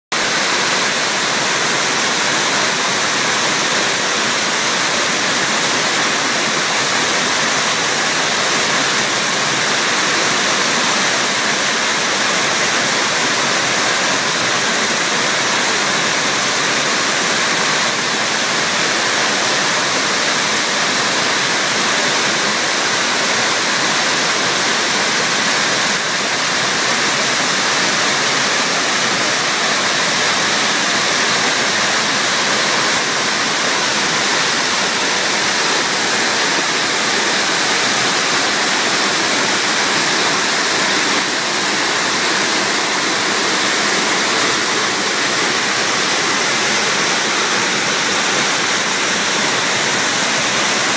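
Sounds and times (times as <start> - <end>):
waterfall rushing onto rock: 0.1 - 50.9.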